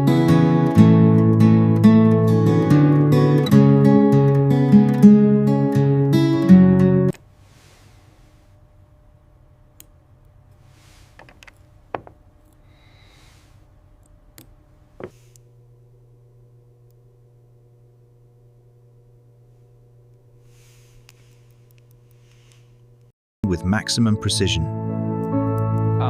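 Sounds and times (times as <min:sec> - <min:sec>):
steady low hum: 0:00.1 - 0:23.1.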